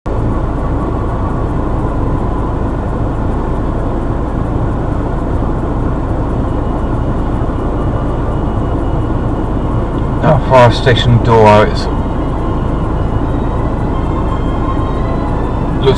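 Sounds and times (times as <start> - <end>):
car engine rumble from inside: 0.1 - 15.9.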